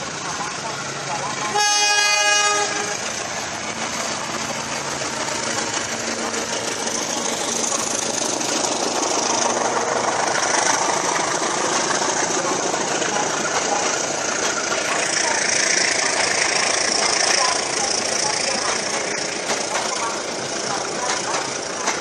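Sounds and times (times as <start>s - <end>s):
diesel locomotive engine passing: 0.0s - 22.0s
train wheels on rails: 0.0s - 22.0s.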